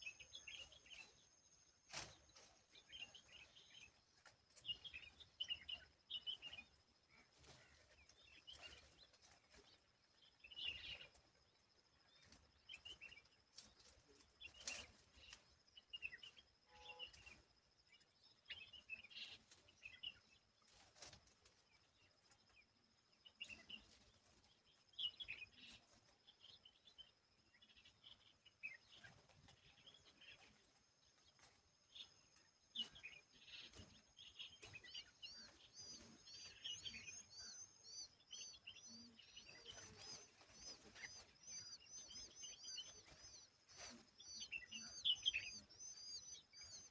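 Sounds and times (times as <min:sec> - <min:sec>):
birds chirping: 0:00.0 - 0:20.6, 0:21.6 - 0:46.9.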